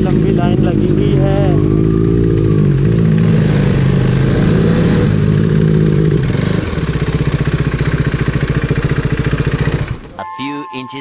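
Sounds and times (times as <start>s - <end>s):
motorcycle engine idling: 0.0s - 4.1s, 5.2s - 10.2s.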